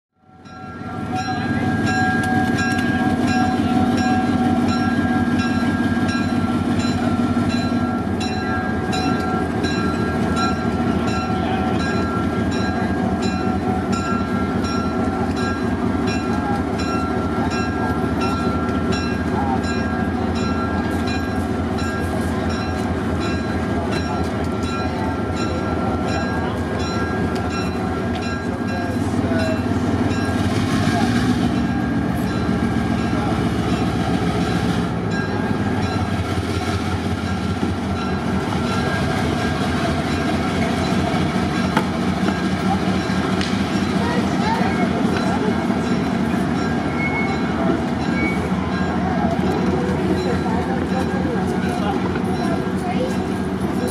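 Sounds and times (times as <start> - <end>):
diesel locomotive running: 0.2 - 53.9.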